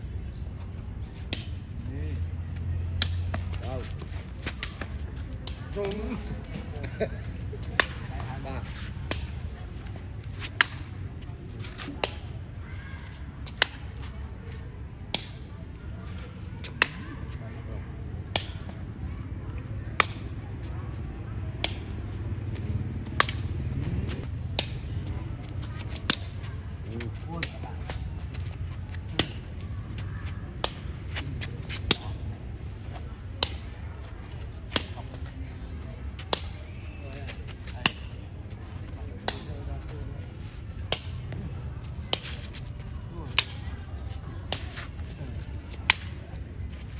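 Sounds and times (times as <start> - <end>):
foot tapping shuttlecock: 0.5 - 17.4, 19.9 - 46.9.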